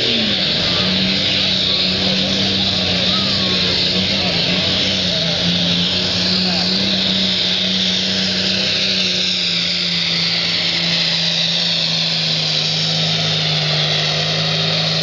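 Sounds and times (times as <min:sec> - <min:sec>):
loud high whine: 0:00.0 - 0:15.0
tractor engine at high revs: 0:00.0 - 0:15.0.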